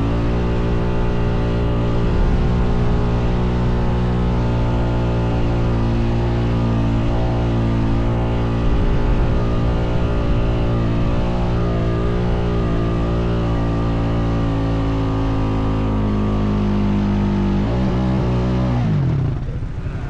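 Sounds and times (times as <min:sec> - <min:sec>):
atv engine running under load: 0:00.0 - 0:20.0.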